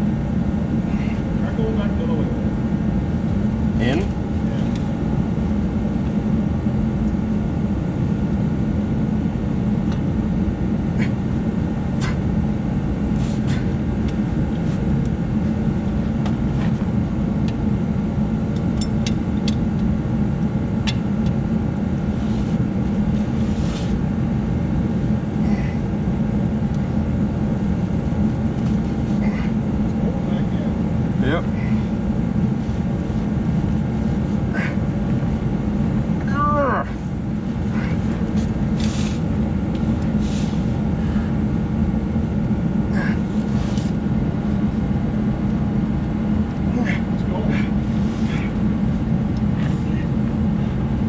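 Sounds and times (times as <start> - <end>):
low mechanical drone: 0.0 - 51.0.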